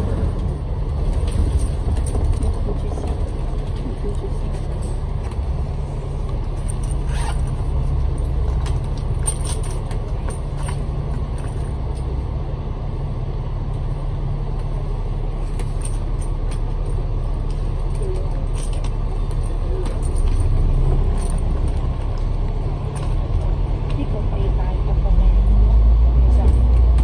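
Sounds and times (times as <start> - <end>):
bus engine and tyres droning: 0.0 - 27.0.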